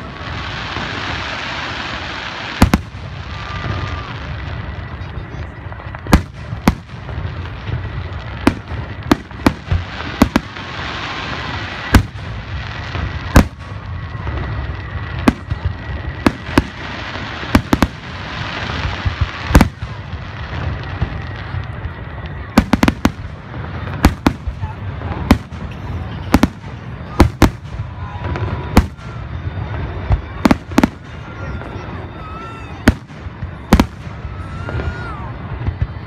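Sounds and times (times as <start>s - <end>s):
continuous rush of noise: 0.0s - 36.0s
fireworks bursting: 0.0s - 36.0s.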